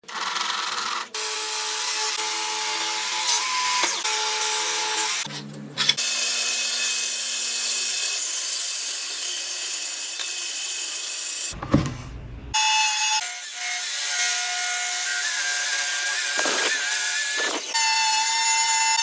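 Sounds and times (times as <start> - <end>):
power tools working wood: 0.0 - 11.6, 12.6 - 19.0.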